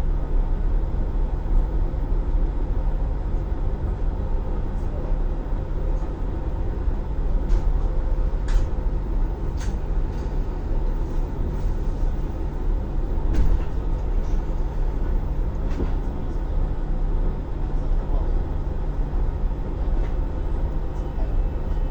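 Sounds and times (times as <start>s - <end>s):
train rumble and hum: 0.0s - 21.9s.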